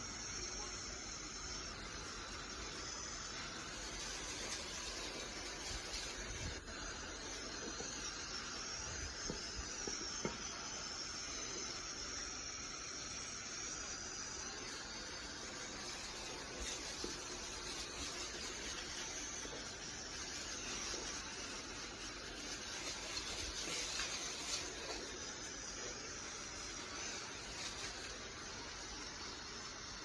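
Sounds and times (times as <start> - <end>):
pressure washer hissing: 0.0 - 30.0.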